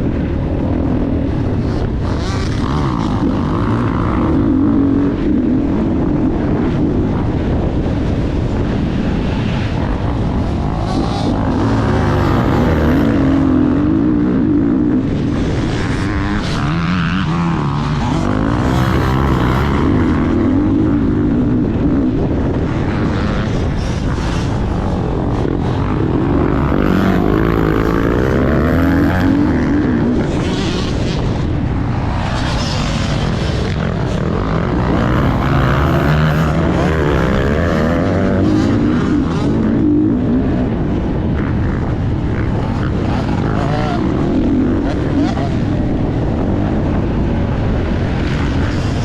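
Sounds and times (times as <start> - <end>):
dirt bike engine revving: 0.1 - 49.0.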